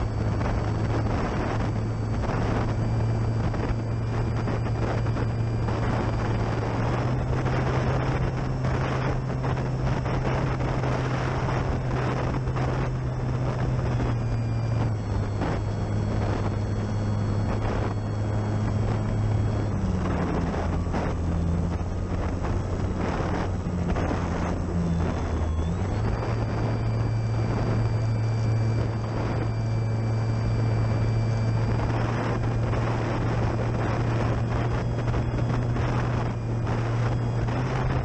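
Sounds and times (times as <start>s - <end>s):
high motor whine: 0.0s - 38.0s
model plane propeller droning: 0.0s - 38.0s
wind on microphone: 0.0s - 38.0s.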